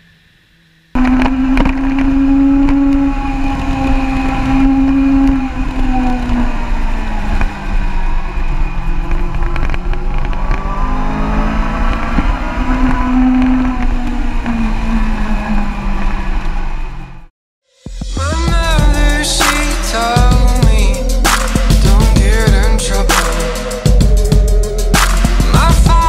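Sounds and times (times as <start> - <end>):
motorcycle engine running: 1.0 - 14.7, 17.9 - 26.0.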